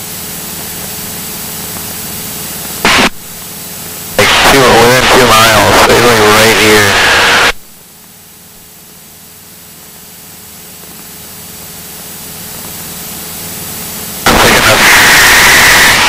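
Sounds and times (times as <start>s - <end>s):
small plane engine and cabin noise: 0.0s - 16.0s.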